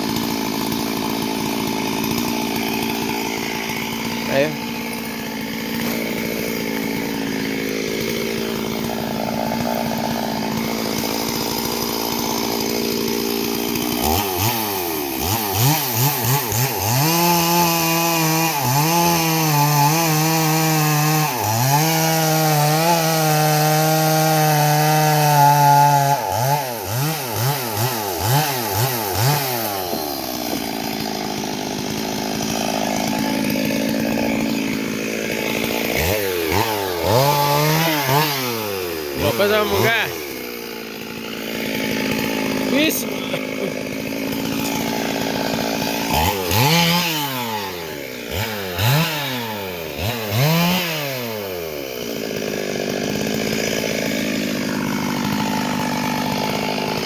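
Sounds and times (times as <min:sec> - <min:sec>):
chainsaw engine idling and revving: 0:00.0 - 0:57.0.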